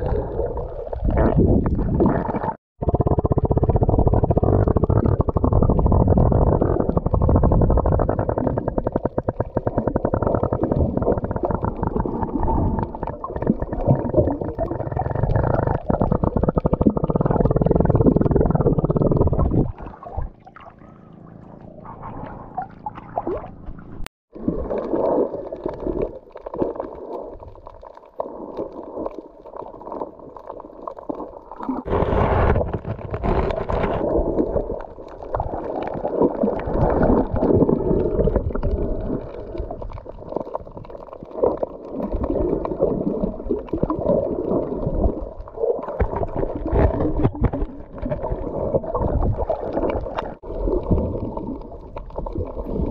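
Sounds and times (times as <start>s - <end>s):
underwater sloshing and gurgling: 0.0s - 52.9s.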